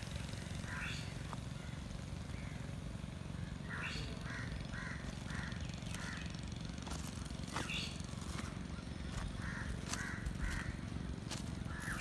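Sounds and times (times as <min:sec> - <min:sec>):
crows cawing: 0:00.6 - 0:02.7, 0:03.6 - 0:08.5, 0:09.1 - 0:12.0.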